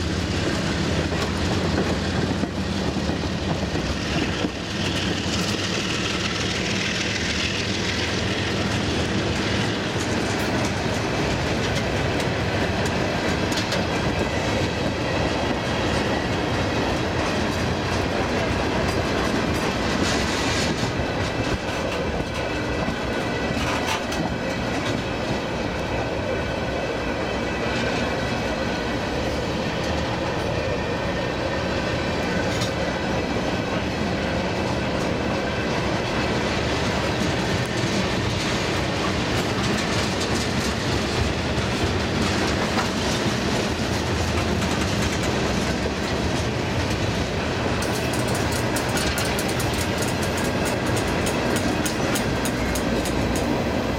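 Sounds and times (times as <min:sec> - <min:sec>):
freight train on tracks: 0:00.0 - 0:53.9.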